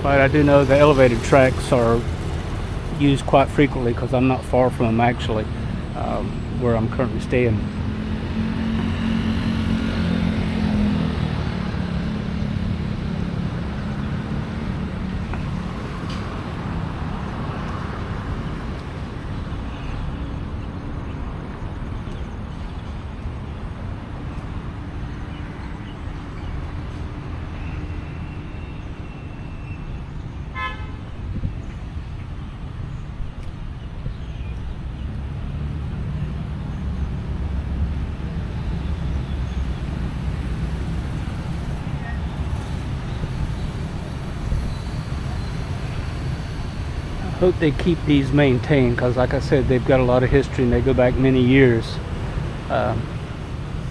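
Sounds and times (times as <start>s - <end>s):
vehicles passing: 0.0s - 53.9s.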